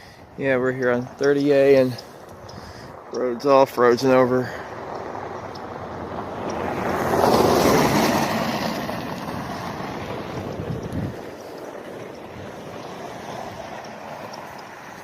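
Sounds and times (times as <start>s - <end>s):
vehicle tyres passing on road: 0.0s - 15.0s.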